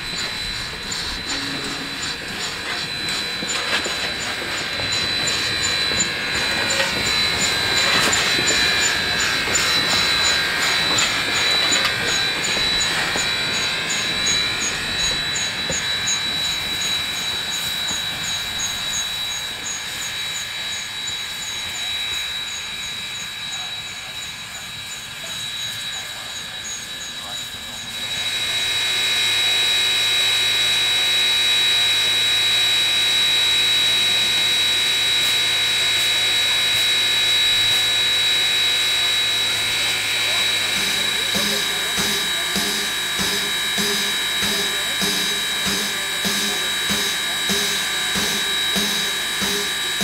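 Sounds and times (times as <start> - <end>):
steam train passing: 0.0 - 31.2, 33.6 - 50.0
steady high-pitched tone: 0.0 - 50.0.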